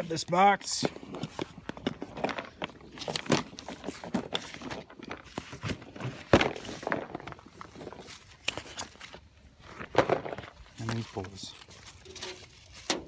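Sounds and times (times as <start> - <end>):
fishing gear knocking and rustling: 0.0 - 13.0.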